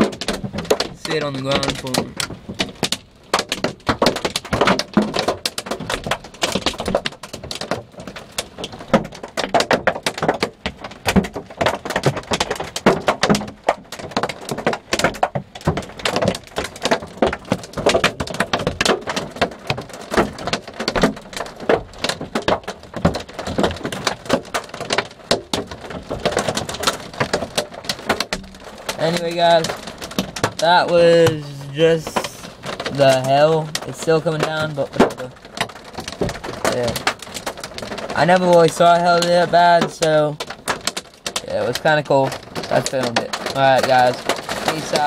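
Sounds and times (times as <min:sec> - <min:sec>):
hailstones clattering on hard surfaces: 0:00.0 - 0:45.0.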